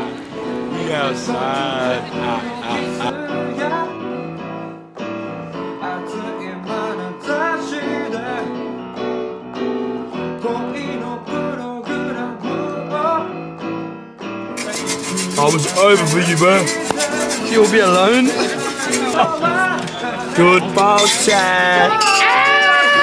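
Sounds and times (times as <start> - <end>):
keyboard background music: 0.0 - 23.0.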